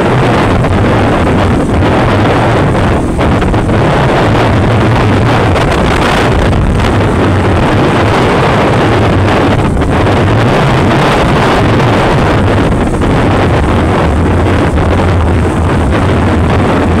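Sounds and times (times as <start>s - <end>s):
motorcycle engine humming: 0.0s - 17.0s
wind buffeting microphone: 0.0s - 17.0s.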